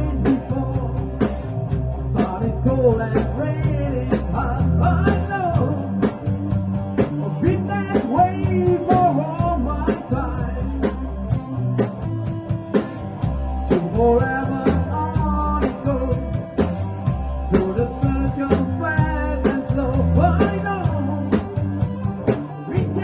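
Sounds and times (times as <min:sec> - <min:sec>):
rock song with sung vocals: 0:00.0 - 0:23.0.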